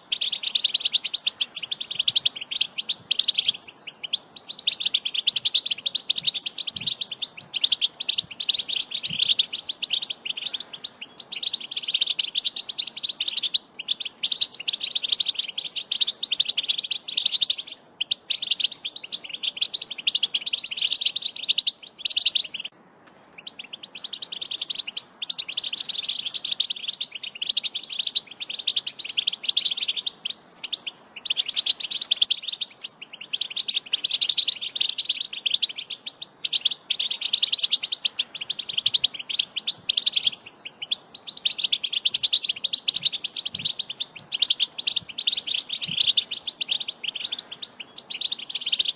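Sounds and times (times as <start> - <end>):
bird twittering chatter: 0.0 - 48.9.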